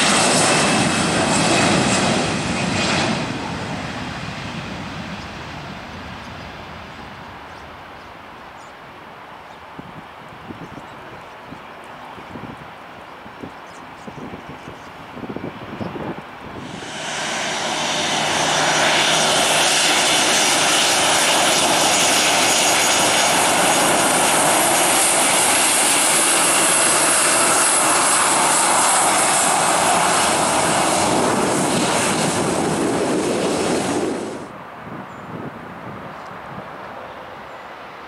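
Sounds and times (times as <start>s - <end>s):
jet engine roar with fan whine: 0.0s - 38.0s.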